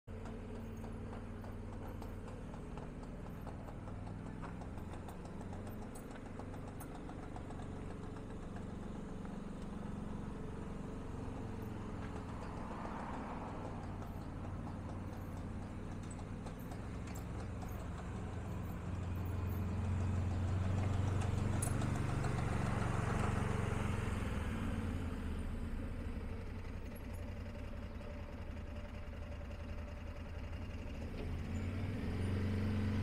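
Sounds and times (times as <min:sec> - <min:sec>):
vehicle engine running at low speed: 0:00.1 - 0:33.0.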